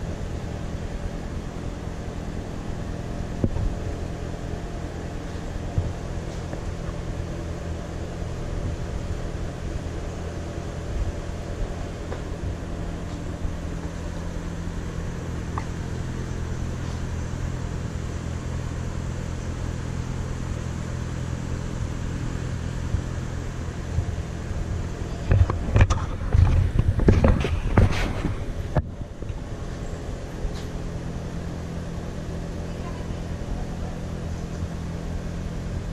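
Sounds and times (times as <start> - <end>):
engine running: 0.0 - 35.9.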